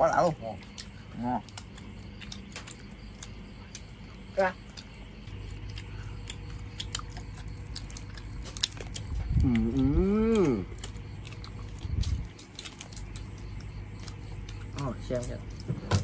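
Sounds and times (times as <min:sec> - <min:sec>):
low electrical hum: 0:00.0 - 0:16.0
man chewing and tearing meat: 0:00.6 - 0:15.8.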